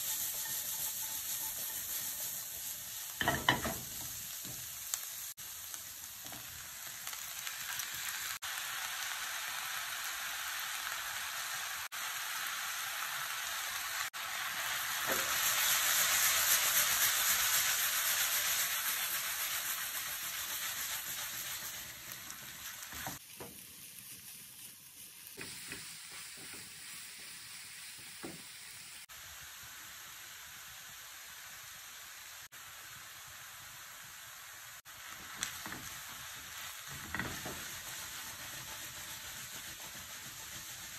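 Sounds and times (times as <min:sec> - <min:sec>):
noodles sizzling in a wok: 0:00.0 - 0:40.9.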